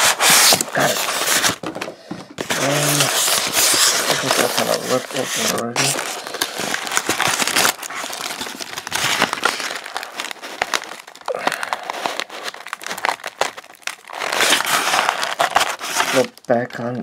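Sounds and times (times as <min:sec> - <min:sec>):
plastic packaging crinkling: 0:00.0 - 0:16.6.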